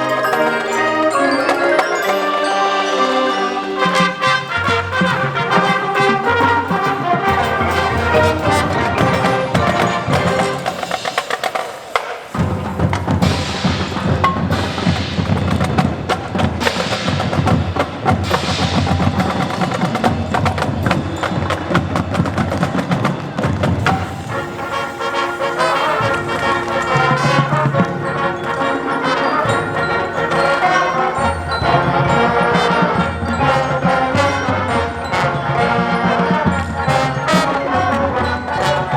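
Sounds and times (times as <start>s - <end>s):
marching band playing: 0.0s - 38.9s
quick percussion strikes: 0.0s - 38.9s.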